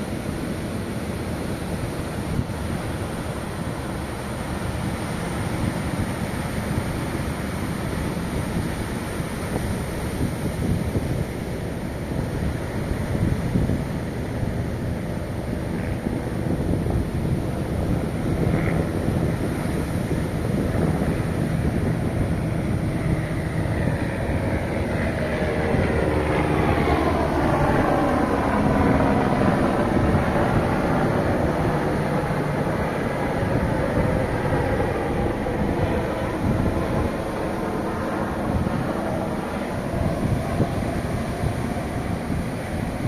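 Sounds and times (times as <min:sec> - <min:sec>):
passing engine drone: 0:00.0 - 0:43.0
sea waves washing on shore: 0:00.0 - 0:43.0
wind on microphone: 0:00.0 - 0:43.0.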